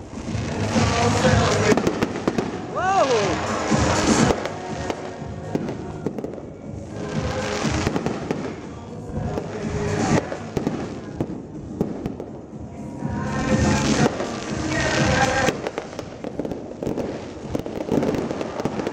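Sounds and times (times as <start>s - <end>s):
fireworks bursting: 0.0s - 18.9s.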